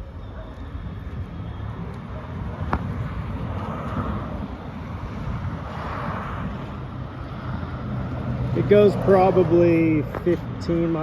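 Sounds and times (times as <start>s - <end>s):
wind on microphone: 0.0s - 9.1s
faint vehicle noise: 0.0s - 11.0s.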